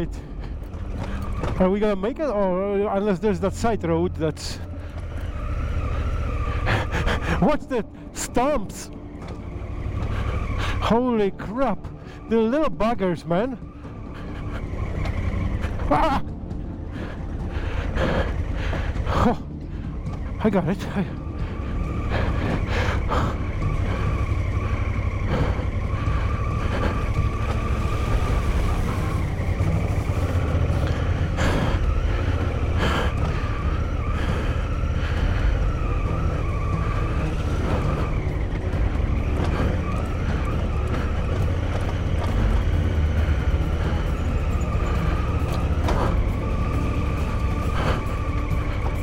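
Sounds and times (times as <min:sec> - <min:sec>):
motorcycle engine rumble: 0:00.0 - 0:49.0.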